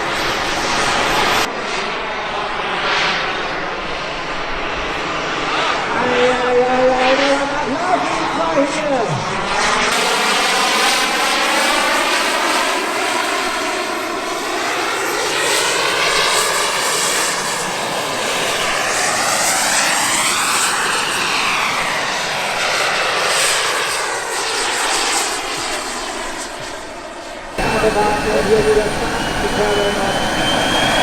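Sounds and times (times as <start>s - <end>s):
model aircraft engine flying overhead: 0.0s - 31.0s.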